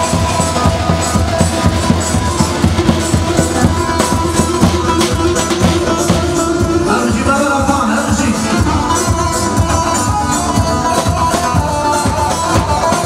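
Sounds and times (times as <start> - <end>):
quick drum beat: 0.0 - 13.0.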